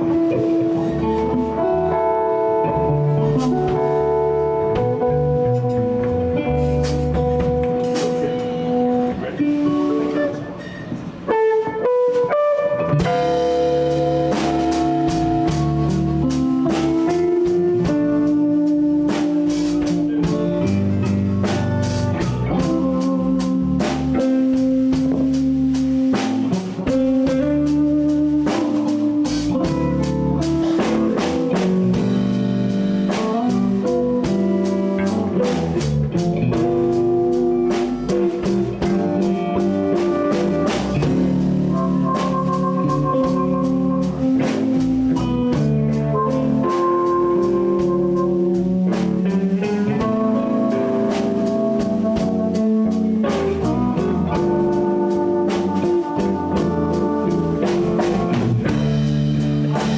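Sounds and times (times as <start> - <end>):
blues band playing: 0.0 - 59.9
electric guitar notes: 0.0 - 59.9.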